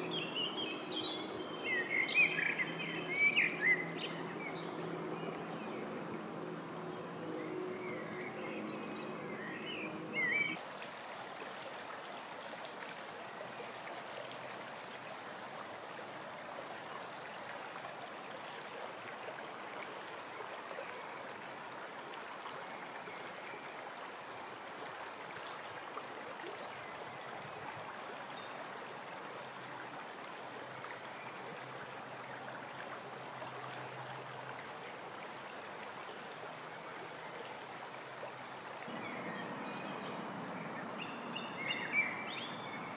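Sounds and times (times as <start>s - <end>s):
brook burbling over stones: 0.0s - 42.9s.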